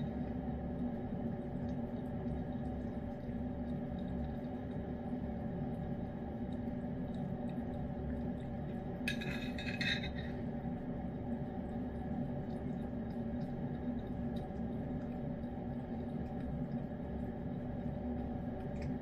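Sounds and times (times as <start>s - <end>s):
cat licking and eating: 0.0s - 9.1s, 10.2s - 19.0s
steady room hum: 0.0s - 19.0s.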